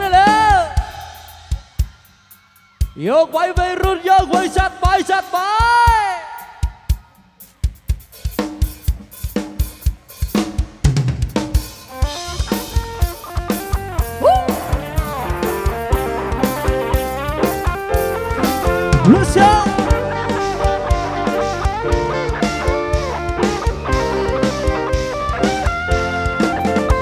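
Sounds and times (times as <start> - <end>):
band instrumental: 0.0 - 27.0
drum kit beat: 0.0 - 27.0.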